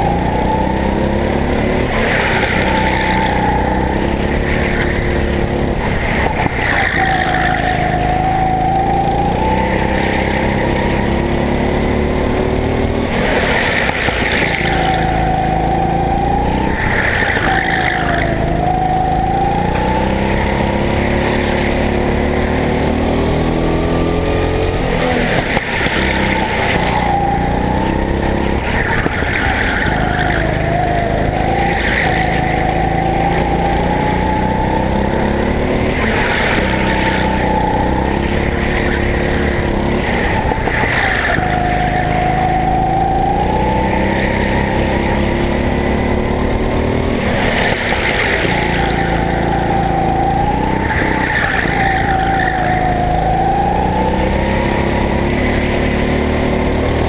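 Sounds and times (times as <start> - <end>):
tyre squeal: 0.0 - 11.0, 13.6 - 21.9, 25.0 - 55.8
go-kart engine running hard: 0.0 - 57.0.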